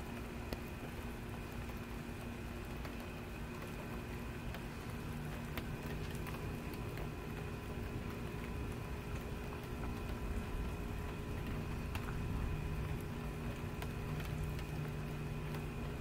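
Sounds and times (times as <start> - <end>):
faint hum of tones: 0.0 - 16.0
small drip ticks: 0.0 - 16.0
steady rain: 0.0 - 16.0.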